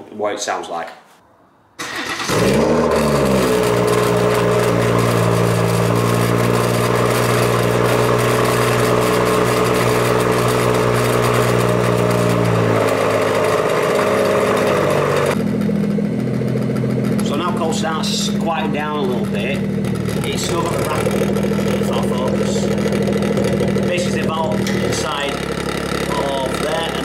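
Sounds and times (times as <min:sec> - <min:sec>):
car engine cold idle: 0:01.9 - 0:27.0
exhaust flap rattle: 0:02.2 - 0:27.0.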